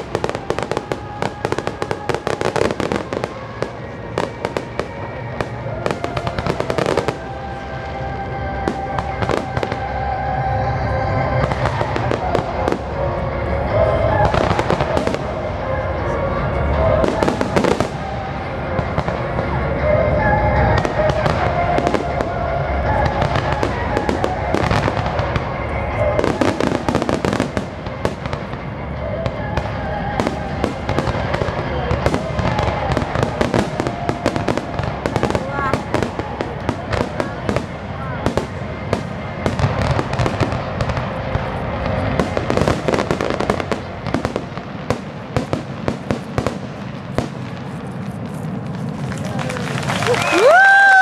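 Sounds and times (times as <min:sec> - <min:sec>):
fireworks bursting: 0:00.0 - 0:51.0
fireworks crackling: 0:00.0 - 0:51.0.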